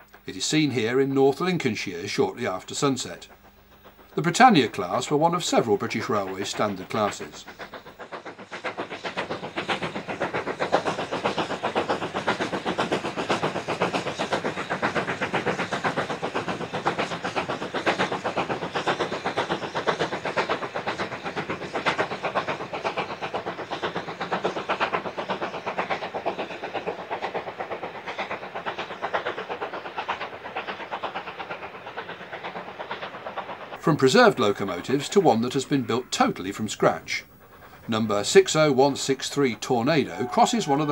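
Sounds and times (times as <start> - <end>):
steam locomotive exhaust beating: 0.0 - 40.9.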